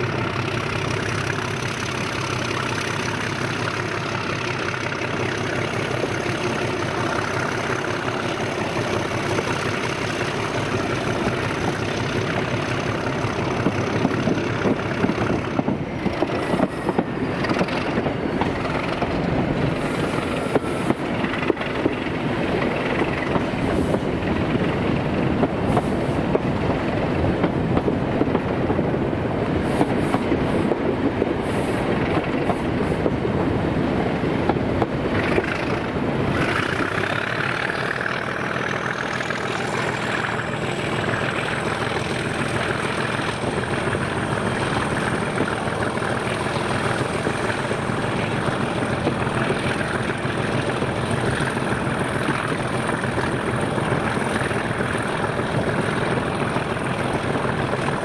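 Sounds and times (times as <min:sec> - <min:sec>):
diesel train engine: 0:00.0 - 0:58.0
wheels clicking over rail joints: 0:00.0 - 0:58.0.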